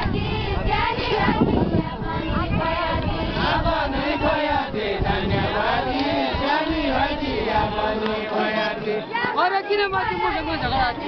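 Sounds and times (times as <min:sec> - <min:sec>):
crowd noise: 0:00.0 - 0:11.0
men and women singing folk song: 0:00.0 - 0:11.0.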